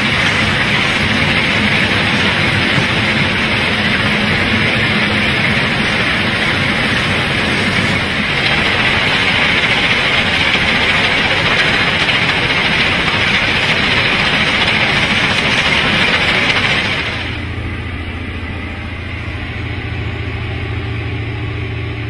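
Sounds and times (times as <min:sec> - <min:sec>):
track-maintenance machine running: 0:00.0 - 0:22.0.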